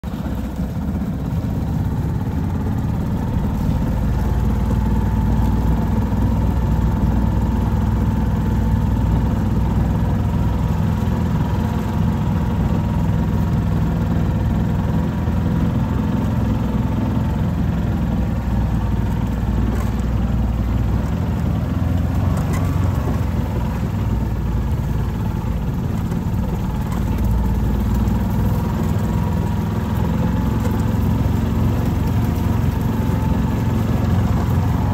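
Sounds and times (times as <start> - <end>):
vehicle engine rumbling: 0.0 - 34.9.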